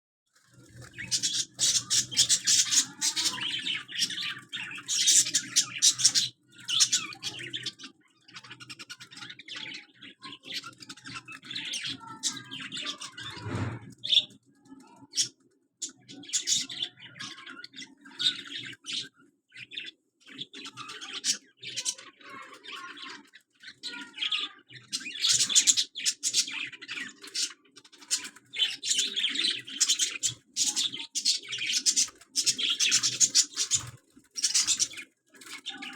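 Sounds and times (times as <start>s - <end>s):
parrot chirping and chattering: 0.9s - 19.8s, 20.4s - 35.9s.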